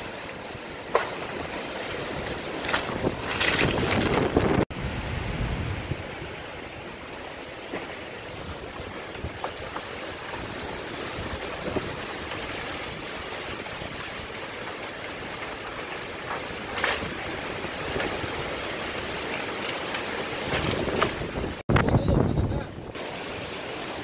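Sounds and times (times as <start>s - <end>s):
storm wind through trees: 0.0s - 24.0s
wind buffeting microphone: 1.0s - 7.1s, 7.7s - 19.2s, 20.1s - 23.5s.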